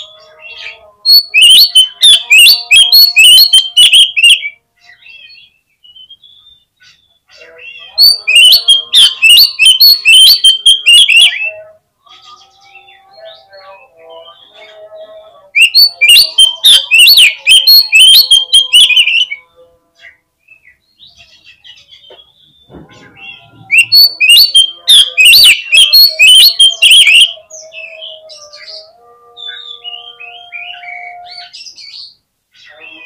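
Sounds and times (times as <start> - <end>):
bird chattering song: 0.0 - 12.6, 15.6 - 19.4, 21.0 - 33.0.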